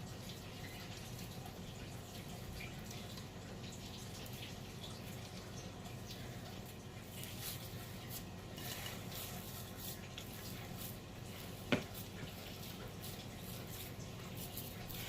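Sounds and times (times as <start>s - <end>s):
dough squishing in a bowl: 0.0s - 15.0s.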